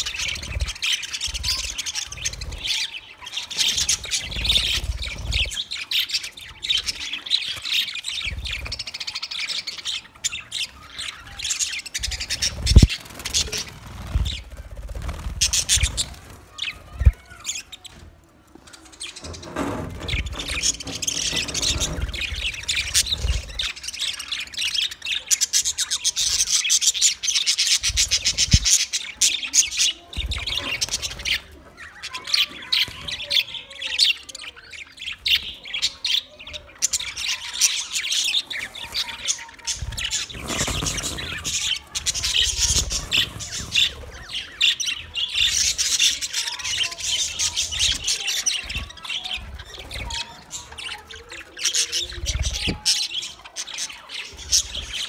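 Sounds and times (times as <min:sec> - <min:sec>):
flock of budgerigars chirping: 0:00.0 - 0:55.0.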